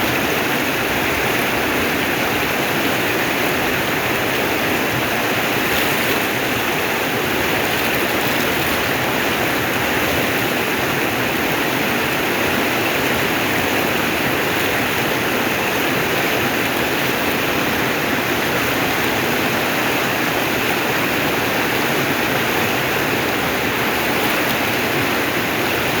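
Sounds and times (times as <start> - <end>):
waterfall pouring: 0.0 - 26.0.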